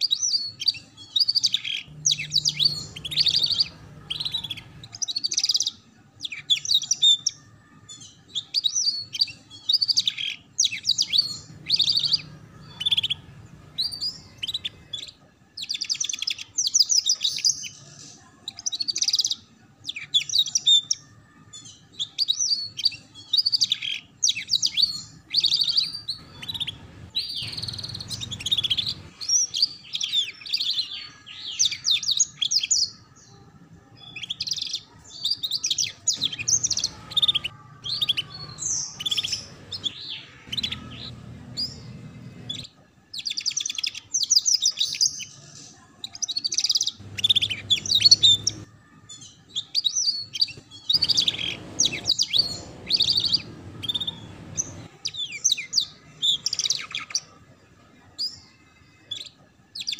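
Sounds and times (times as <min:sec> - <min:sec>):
canary singing chirps and trills: 0:00.0 - 0:59.9.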